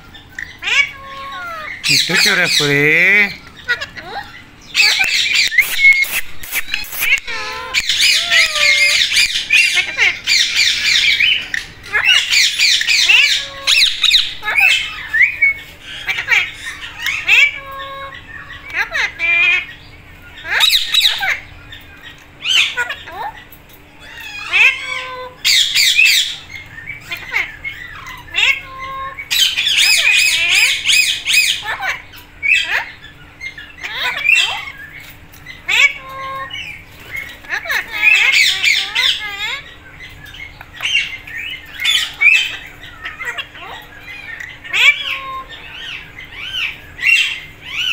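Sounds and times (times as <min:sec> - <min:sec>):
parakeets squawking: 0:00.0 - 0:47.9.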